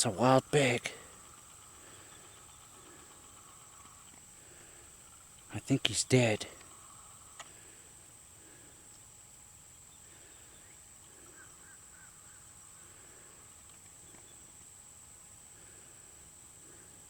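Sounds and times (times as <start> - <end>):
faint bird chirps: 0.0 - 9.1, 9.7 - 14.8.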